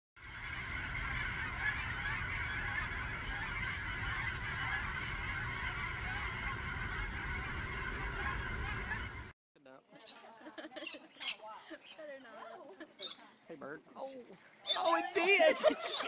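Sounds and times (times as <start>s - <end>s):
flock of birds calling: 0.2s - 9.3s, 10.0s - 16.0s.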